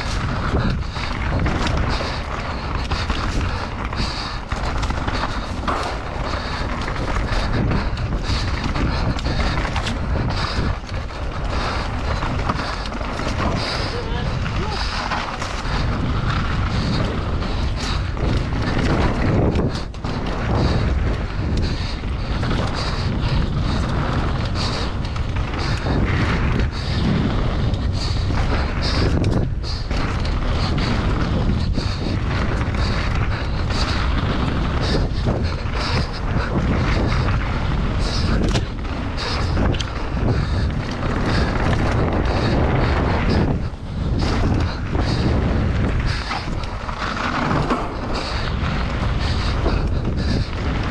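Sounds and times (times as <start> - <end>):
bike rattling over bumps: 0.0 - 50.9
tyres crunching over gravel: 0.0 - 50.9
wind rumble on microphone: 0.0 - 50.9.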